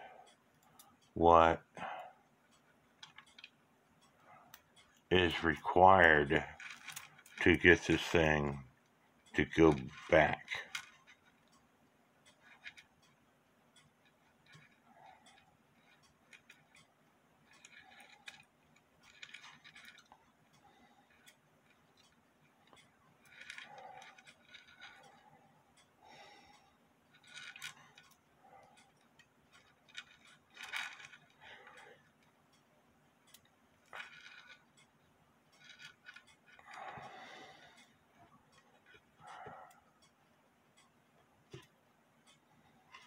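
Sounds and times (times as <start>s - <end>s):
small metal clicks and scrapes: 0.0s - 43.0s.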